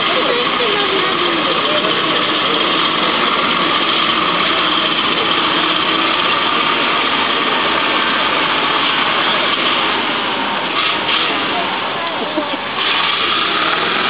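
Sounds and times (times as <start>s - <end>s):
crowd murmur: 0.0s - 14.0s
vehicle engine running: 0.0s - 14.0s.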